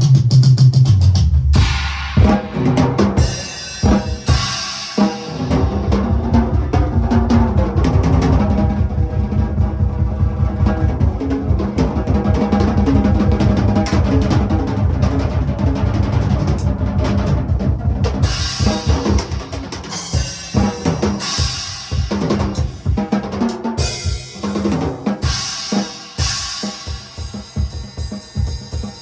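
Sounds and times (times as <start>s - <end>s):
bass drum: 0.0s - 29.0s
drum kit solo: 0.0s - 29.0s.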